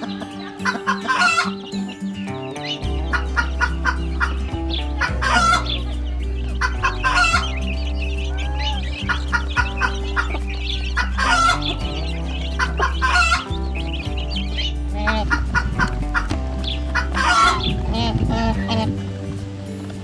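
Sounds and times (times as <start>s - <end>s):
background music with steady beat: 0.0s - 20.0s
chickens clucking: 0.0s - 20.0s.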